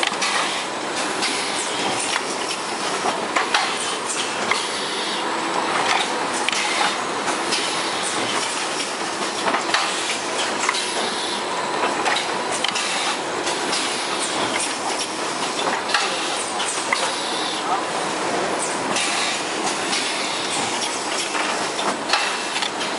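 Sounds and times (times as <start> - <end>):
conveyor mechanical rattle: 0.0 - 22.9.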